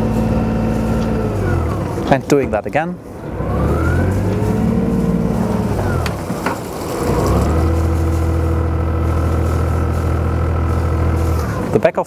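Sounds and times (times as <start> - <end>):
boat engine revving: 0.0 - 12.0.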